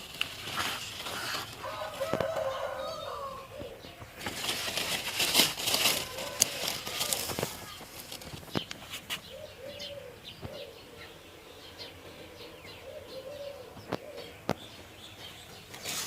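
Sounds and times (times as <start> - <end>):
small birds chirping: 0.0 - 16.0
dove cooing: 0.4 - 14.9.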